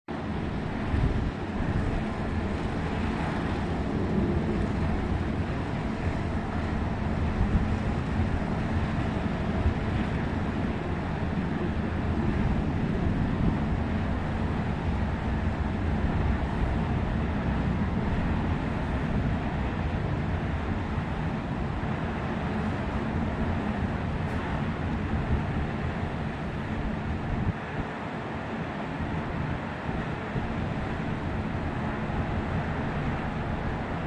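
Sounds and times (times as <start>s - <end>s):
ship engines rumbling: 0.1s - 34.0s
low buffeting: 0.2s - 27.9s.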